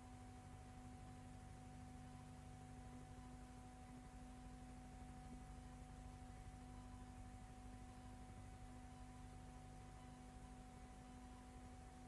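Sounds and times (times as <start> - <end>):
faint steady hum with tones: 0.0 - 12.0.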